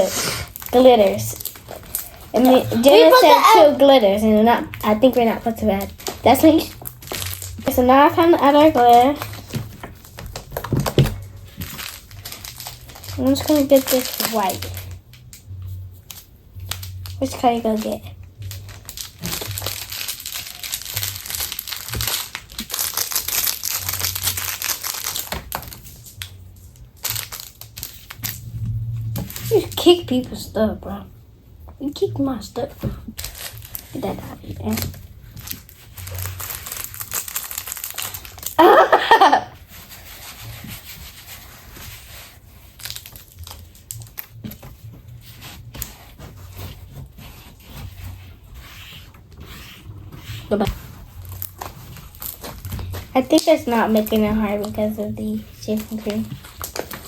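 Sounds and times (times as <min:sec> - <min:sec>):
crinkling and crackling: 0:00.0 - 0:30.6, 0:31.6 - 0:57.0.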